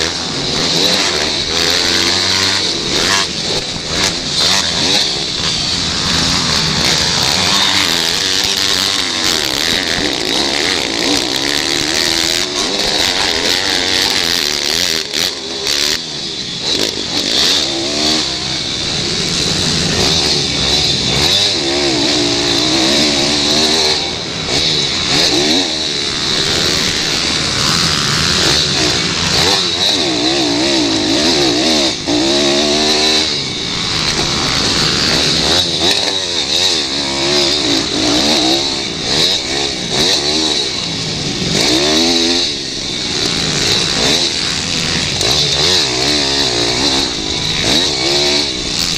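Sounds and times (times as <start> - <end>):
pit bike engines revving: 0.0 - 48.9.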